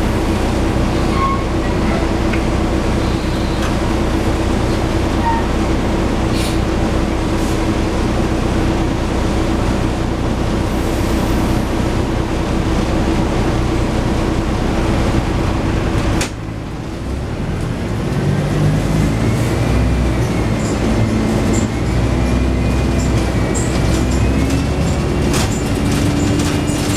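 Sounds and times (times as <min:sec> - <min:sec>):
bus engine drone: 0:00.0 - 0:26.9.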